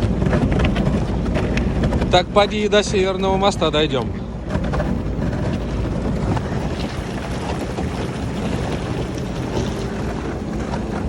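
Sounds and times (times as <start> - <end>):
rushing water: 0.0 - 11.0
watercraft engine rumble: 0.0 - 11.0
wind buffeting microphone: 0.0 - 11.0.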